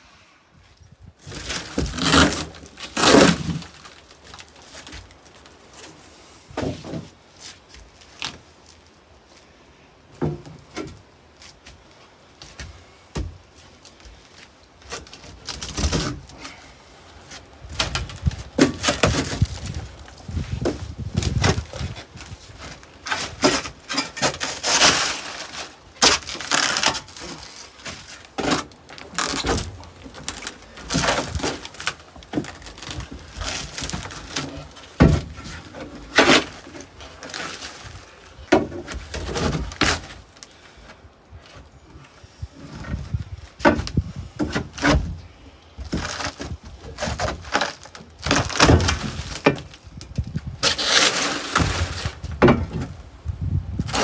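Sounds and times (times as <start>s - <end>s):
knocking and scraping of hard objects: 1.1s - 8.5s, 10.1s - 54.0s.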